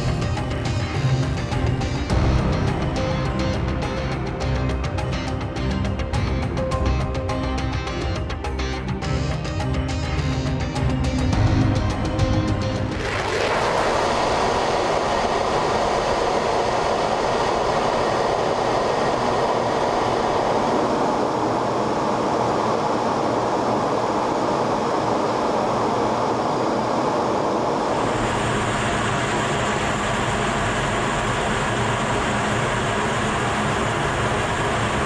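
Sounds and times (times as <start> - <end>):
jet cockpit engine and airflow noise: 0.0 - 35.0.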